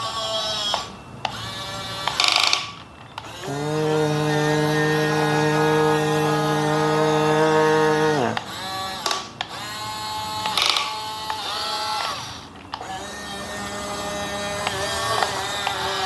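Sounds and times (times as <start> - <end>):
toy excavator motor whine: 0.0 - 16.0.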